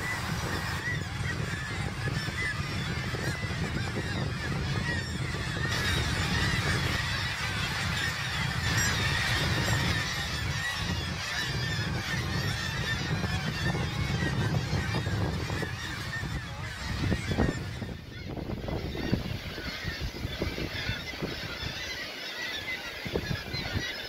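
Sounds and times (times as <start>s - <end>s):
seabird colony shrill calls: 0.0s - 24.0s.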